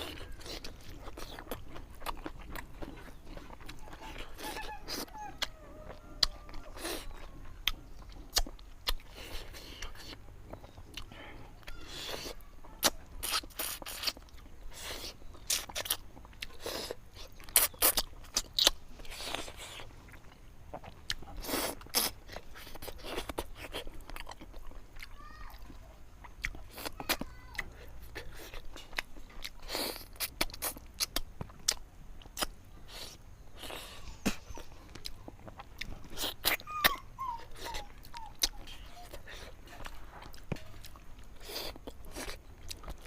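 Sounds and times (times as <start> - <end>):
wet chewing and smacking: 0.0 - 43.0.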